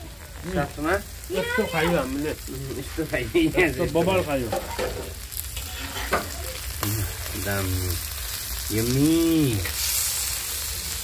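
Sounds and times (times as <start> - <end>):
food sizzling on a hot stone: 0.0 - 11.0.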